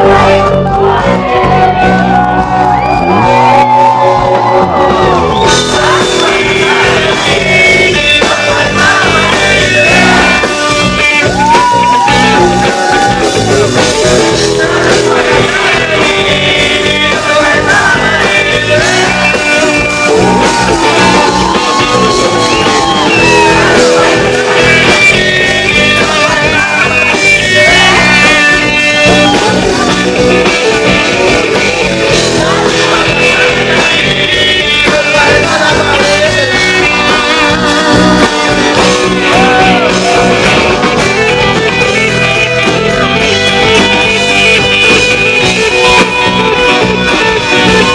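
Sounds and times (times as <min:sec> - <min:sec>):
rock song with singing and guitars: 0:00.0 - 0:47.9.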